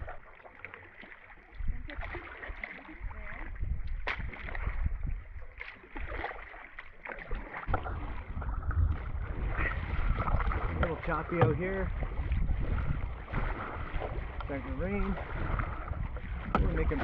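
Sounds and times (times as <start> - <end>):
paddle strokes in water: 0.0 - 17.0
small waves splashing hull: 0.0 - 17.0
wind rumble on microphone: 1.4 - 6.2, 7.7 - 17.0.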